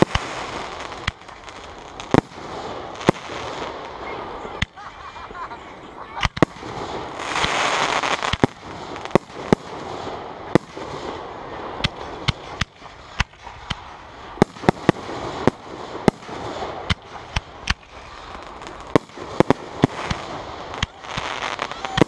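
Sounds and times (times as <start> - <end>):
firework shells booming: 0.0 - 3.8, 6.2 - 22.0.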